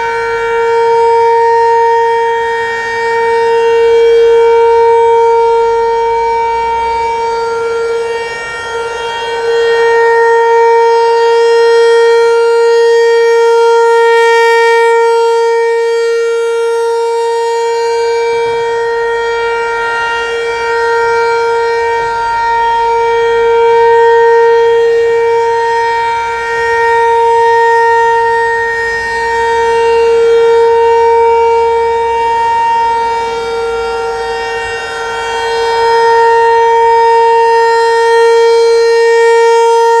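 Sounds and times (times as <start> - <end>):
warning siren steady tone: 0.0 - 40.0.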